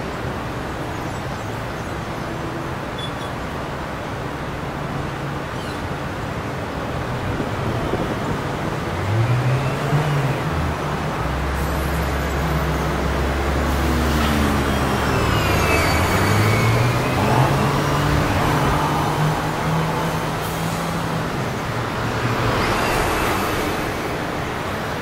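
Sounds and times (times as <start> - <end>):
bus diesel engine: 0.0 - 25.0
city traffic noise: 0.0 - 25.0.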